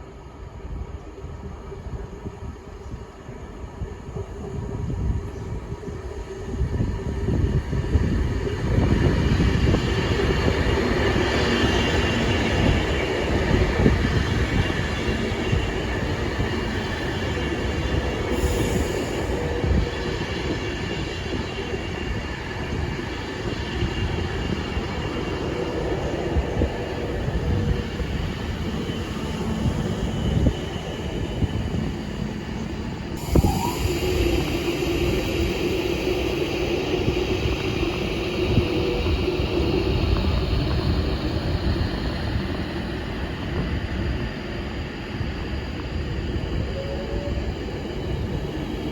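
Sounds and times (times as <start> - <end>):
train wheels rumbling on track: 0.0 - 48.9
steady whining tones: 8.0 - 48.9.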